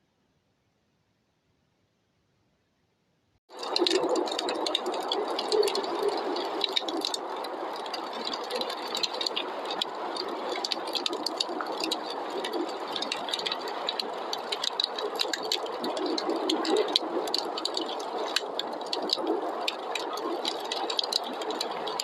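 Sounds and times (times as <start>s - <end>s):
wood fire crackling and popping: 3.5s - 22.0s.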